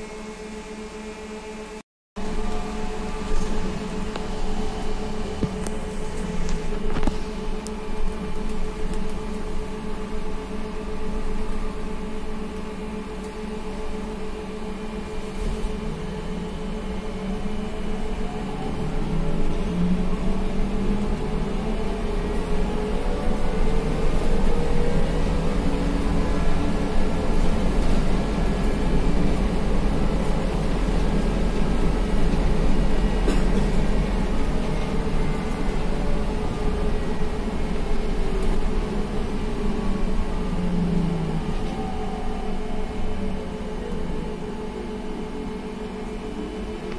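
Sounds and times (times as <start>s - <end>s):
electric hum and whine: 0.0s - 46.9s
bus tyres rumbling: 2.2s - 14.0s, 14.6s - 46.9s.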